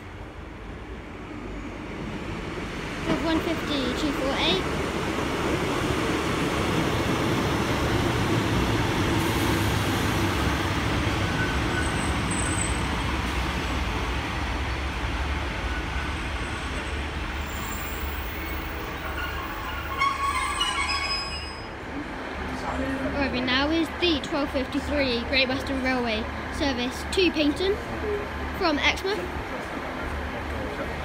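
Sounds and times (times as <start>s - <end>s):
diesel engines rumbling: 0.1s - 31.0s
train wheels on rails: 1.5s - 31.0s.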